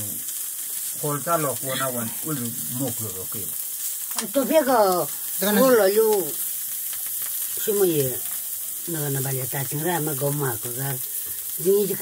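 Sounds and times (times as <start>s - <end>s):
food sizzling while frying: 0.0s - 12.0s.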